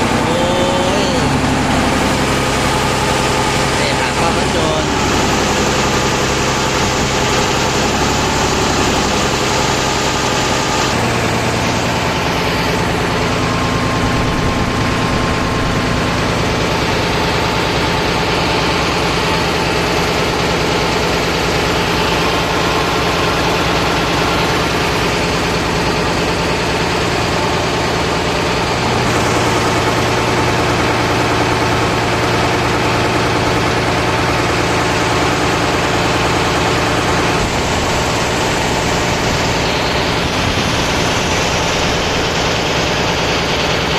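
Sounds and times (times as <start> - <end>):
ferry engine running: 0.0 - 43.9.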